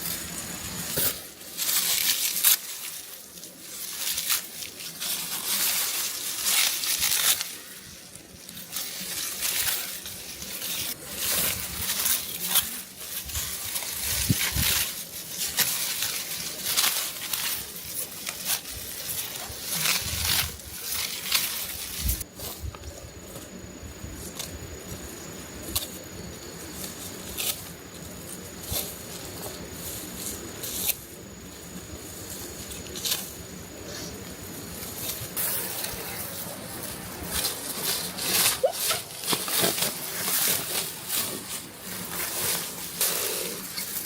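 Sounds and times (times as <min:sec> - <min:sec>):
rustling and crackling handling noise: 0:00.0 - 0:44.0.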